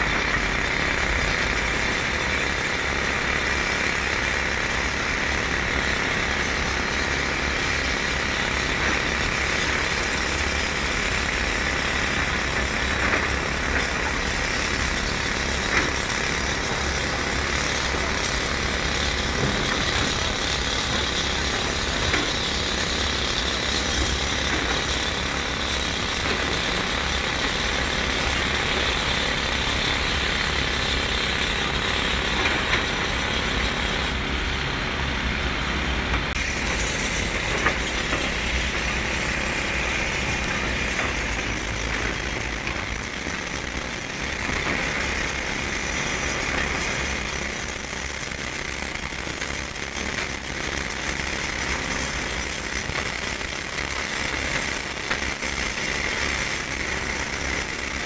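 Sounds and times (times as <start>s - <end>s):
excavator engines and hydraulics: 0.0s - 58.0s.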